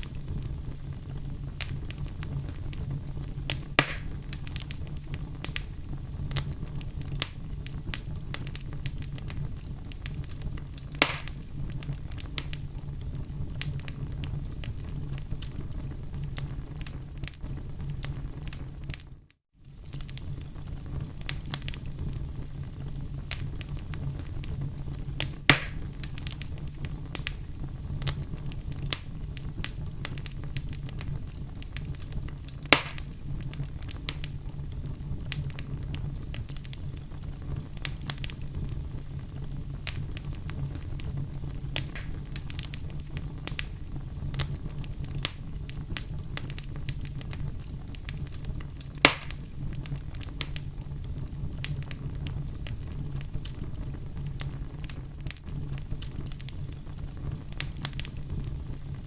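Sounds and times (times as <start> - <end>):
fire crackling: 0.0 - 59.0
loud fire pops: 0.0 - 59.0
low rumble of flames: 0.0 - 59.0.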